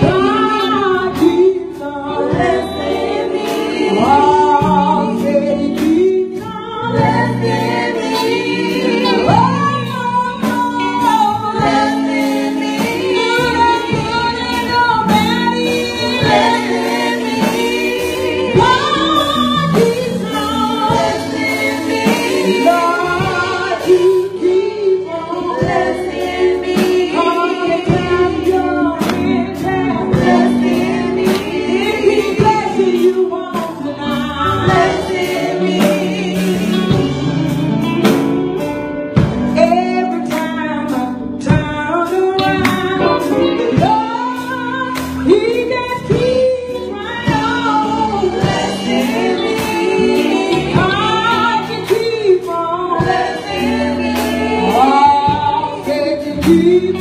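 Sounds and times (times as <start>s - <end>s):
music with steady beat: 0.0s - 57.0s
women's vocal group singing gospel: 0.0s - 57.0s.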